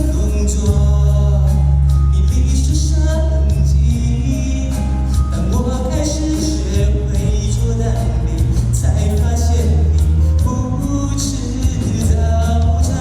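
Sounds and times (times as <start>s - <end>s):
deep steady bass line: 0.0s - 13.0s
person singing ballad: 0.0s - 13.0s.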